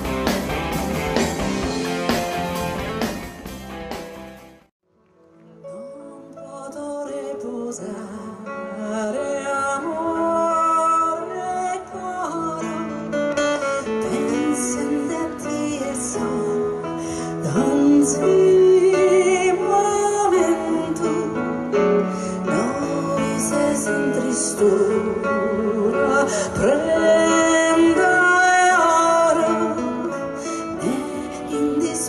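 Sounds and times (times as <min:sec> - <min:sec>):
keyboard: 0:00.0 - 0:32.0
woman singing with vibrato: 0:06.0 - 0:32.0.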